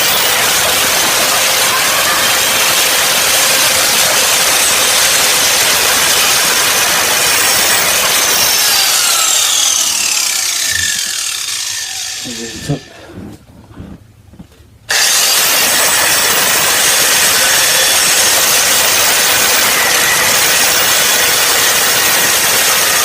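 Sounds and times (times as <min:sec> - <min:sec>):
angle grinder cutting steel: 0:00.0 - 0:13.0, 0:14.9 - 0:23.0.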